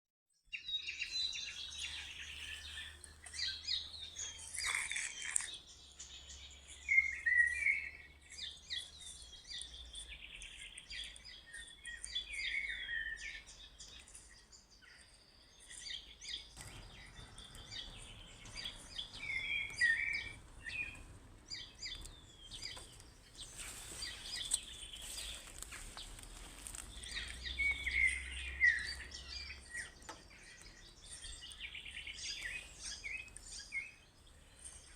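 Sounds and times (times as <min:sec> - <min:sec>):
birds chirping and singing: 0:00.5 - 0:34.9.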